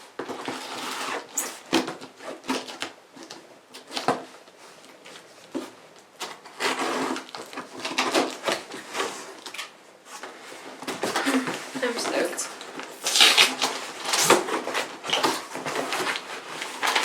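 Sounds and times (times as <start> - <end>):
cardboard scraping and rustling: 0.2 - 17.0.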